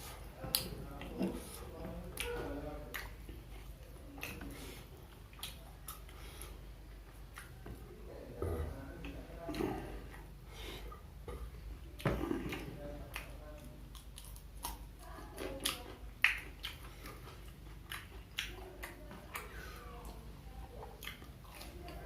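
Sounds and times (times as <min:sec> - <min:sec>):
chewing crunchy fried snacks: 0:00.0 - 0:07.8, 0:11.3 - 0:22.0.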